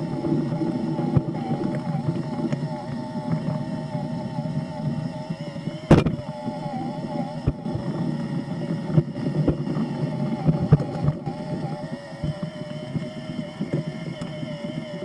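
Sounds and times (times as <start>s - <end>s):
model excavator motor whine: 0.0s - 15.0s.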